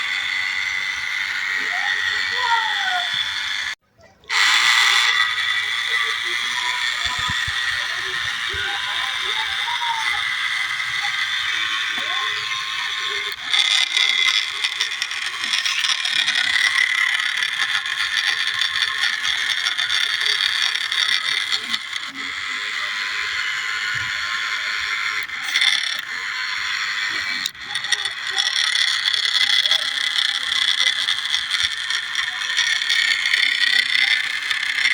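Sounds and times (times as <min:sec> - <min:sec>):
toy tractor motor whining: 0:00.0 - 0:34.9.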